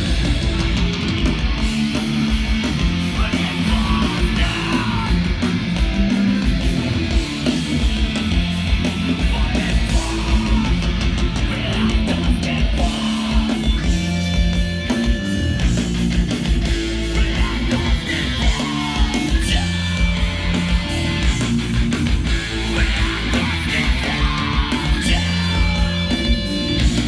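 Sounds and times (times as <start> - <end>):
hardcore band playing: 0.0 - 27.0.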